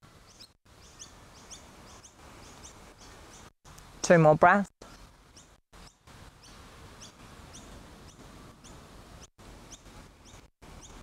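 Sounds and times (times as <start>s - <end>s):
low outdoor hiss: 0.0s - 11.0s
small bird chirping: 0.2s - 3.6s, 4.8s - 11.0s.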